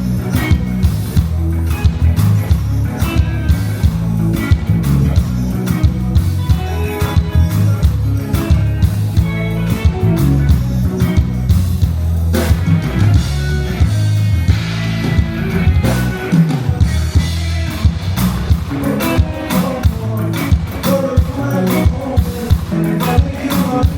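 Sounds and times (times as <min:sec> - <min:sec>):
loud music over sound system: 0:00.0 - 0:23.9.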